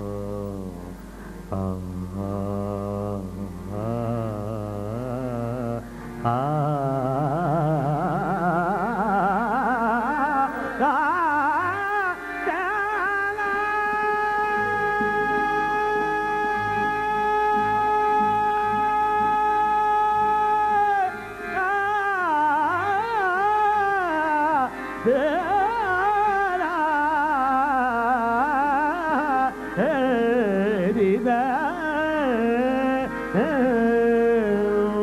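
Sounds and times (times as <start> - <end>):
harmonium: 0.0 - 35.0
man singing: 0.0 - 35.0.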